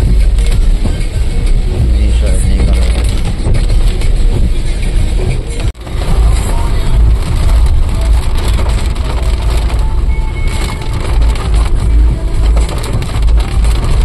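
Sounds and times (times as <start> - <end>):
heavy rain: 0.0 - 14.0
road rumble inside car: 0.0 - 14.0.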